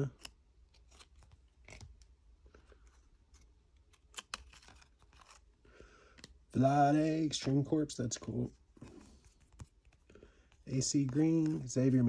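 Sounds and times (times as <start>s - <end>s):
trading cards clicking and rustling: 0.0s - 12.0s.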